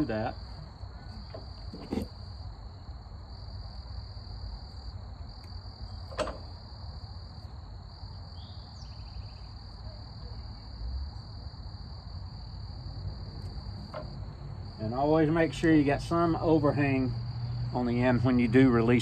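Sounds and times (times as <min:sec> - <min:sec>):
high-pitched insect chorus: 0:00.0 - 0:19.0
low outdoor rumble: 0:00.0 - 0:19.0.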